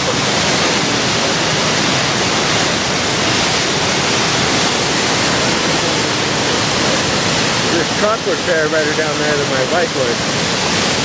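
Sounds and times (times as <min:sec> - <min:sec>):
white water rushing: 0:00.0 - 0:11.0.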